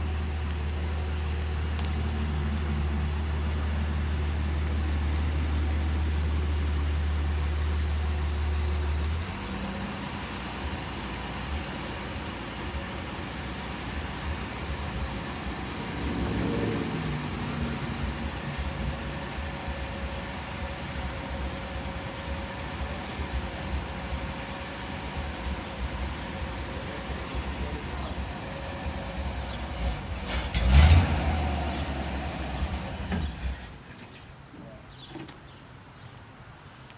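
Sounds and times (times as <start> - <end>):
truck engine running: 0.0 - 35.5.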